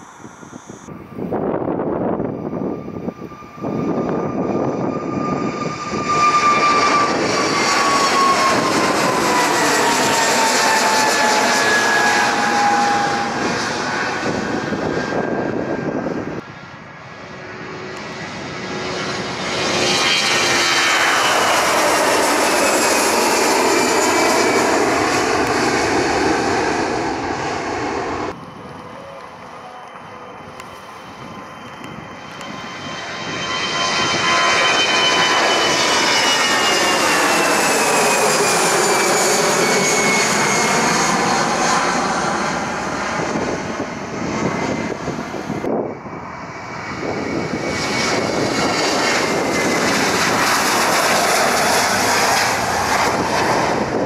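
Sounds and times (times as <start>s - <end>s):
jet airliner taking off: 0.0s - 54.0s.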